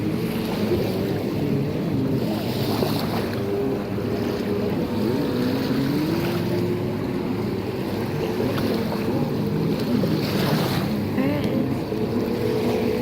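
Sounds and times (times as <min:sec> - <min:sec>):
jet ski engines revving: 0:00.0 - 0:13.0.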